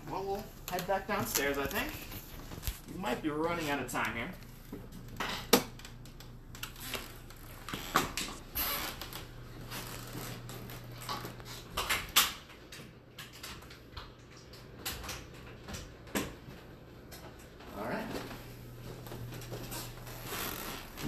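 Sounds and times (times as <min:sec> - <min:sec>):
low steady hum: 0:00.0 - 0:15.8, 0:16.5 - 0:21.0.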